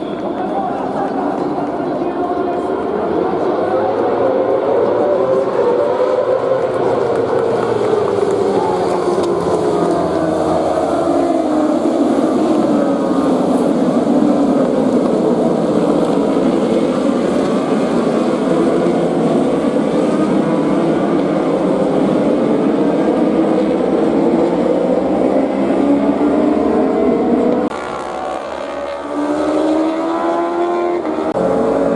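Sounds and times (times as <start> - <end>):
racing motorcycle engines revving: 0.0 - 31.9.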